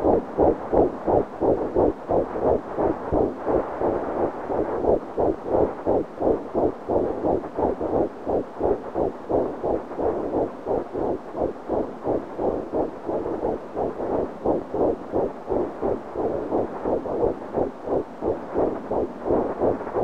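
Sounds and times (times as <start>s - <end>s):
fetal heartbeat on doppler: 0.0s - 20.0s.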